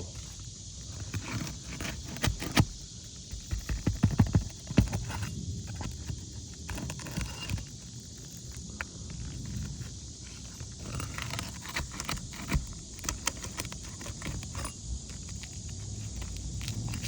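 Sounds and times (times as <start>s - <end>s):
tool scraping under shingles: 0.0s - 17.0s
roofing nails popping loose: 0.2s - 17.0s.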